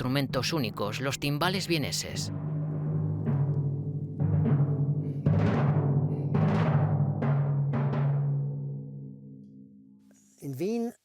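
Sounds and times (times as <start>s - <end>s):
timpani strikes: 0.0s - 9.7s.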